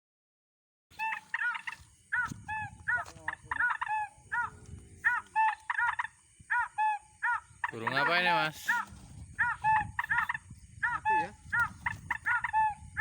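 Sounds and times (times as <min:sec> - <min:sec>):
bird making sharp calls: 0:01.0 - 0:13.0.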